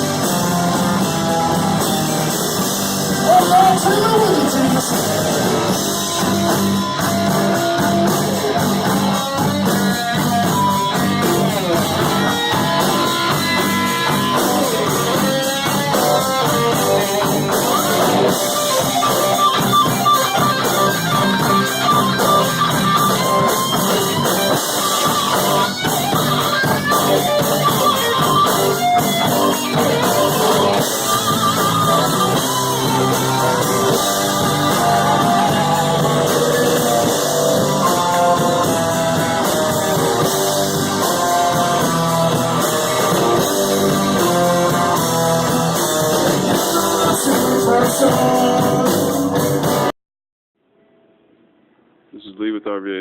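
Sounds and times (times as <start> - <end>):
guitar rock music: 0.0 - 49.9.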